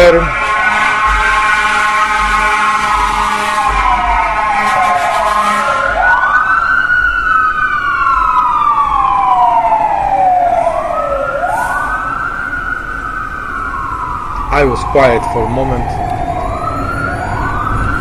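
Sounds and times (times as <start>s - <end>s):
emergency sirens wailing: 0.0s - 18.0s.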